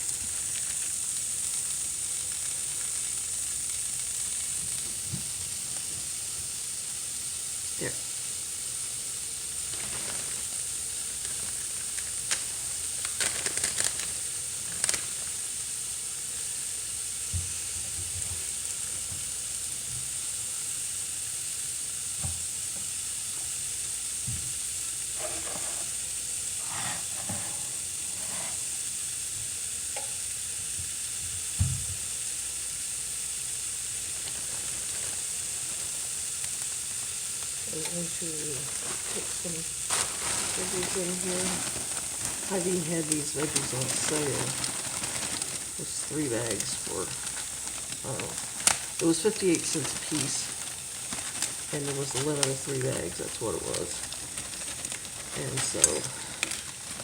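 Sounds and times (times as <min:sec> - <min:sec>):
butter sizzling in a pan: 0:00.0 - 0:57.0.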